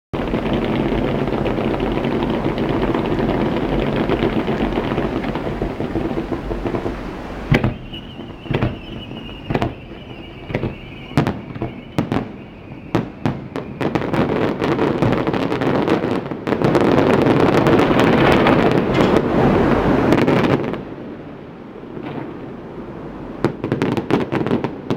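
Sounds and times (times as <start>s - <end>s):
steady rushing noise: 0.2s - 15.3s, 16.3s - 23.4s
fireworks bangs: 0.2s - 24.9s.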